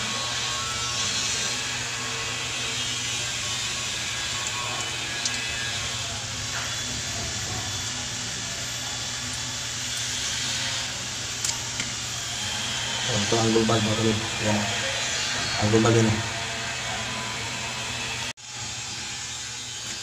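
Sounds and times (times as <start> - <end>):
machine humming with hiss: 0.0 - 20.0.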